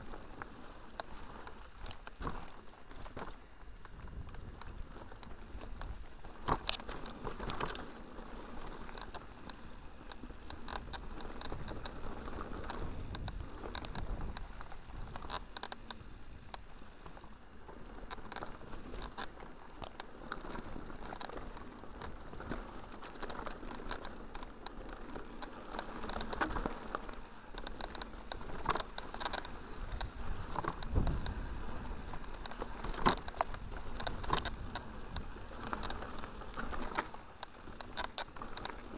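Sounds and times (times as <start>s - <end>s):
bike knocking and rattling over bumps: 0.0s - 38.9s
bike tyres crunching on grit: 0.0s - 38.9s.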